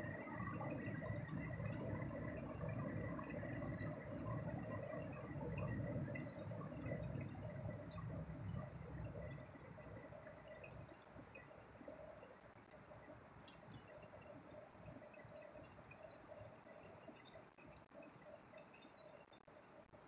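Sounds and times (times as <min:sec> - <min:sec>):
water lapping and dripping: 0:00.0 - 0:20.0.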